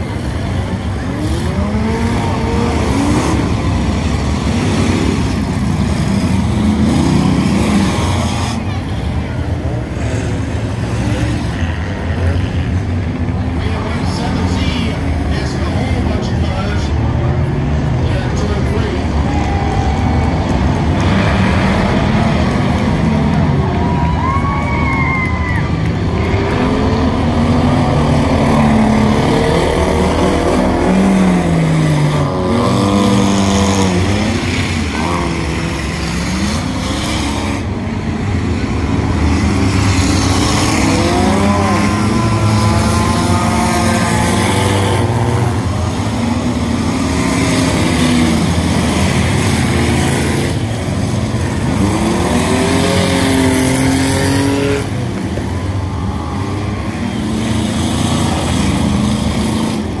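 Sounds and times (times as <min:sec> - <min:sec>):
racing car engines revving: 0:00.0 - 1:00.0.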